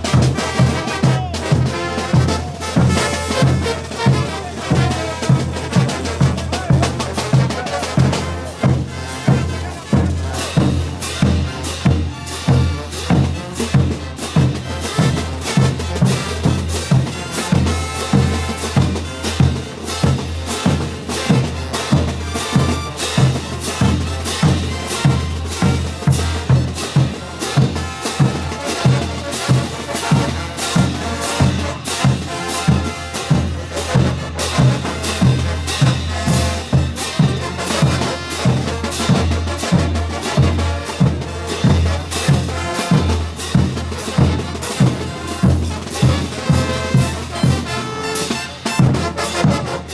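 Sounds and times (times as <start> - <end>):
bass drum beat: 0.0 - 47.7
brass band playing: 0.0 - 49.9.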